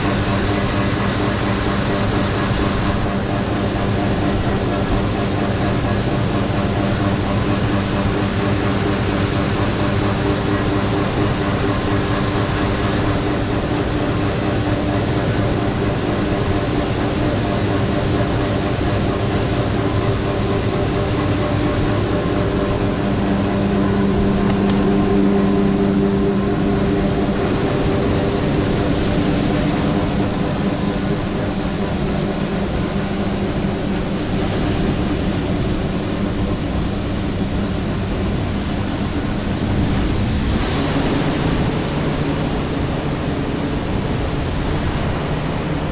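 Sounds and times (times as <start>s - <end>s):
diesel machinery running: 0.0s - 45.9s.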